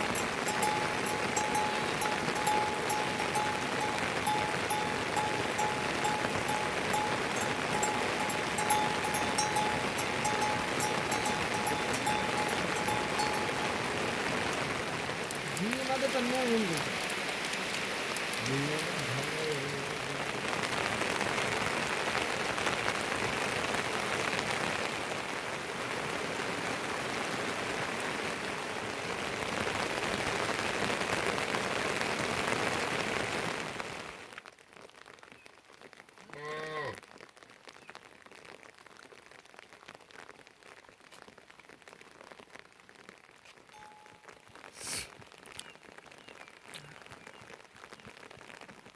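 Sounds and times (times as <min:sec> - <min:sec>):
heavy rain pattering: 0:00.0 - 0:48.9.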